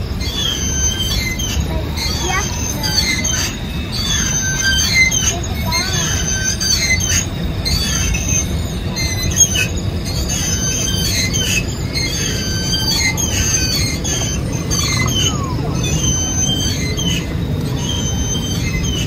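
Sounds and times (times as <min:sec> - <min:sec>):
car rolling rumble: 0:00.0 - 0:19.0
high squeaky chirps: 0:00.1 - 0:19.0.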